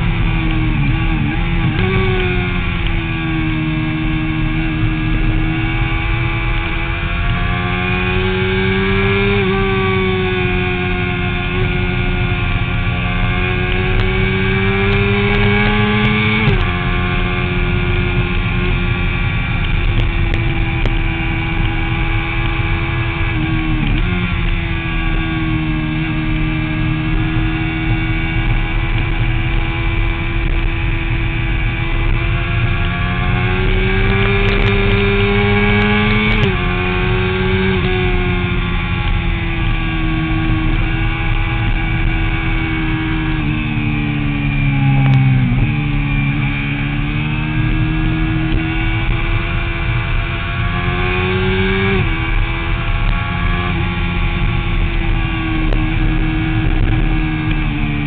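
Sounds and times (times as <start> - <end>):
motorcycle engine running hard: 0.0 - 58.0.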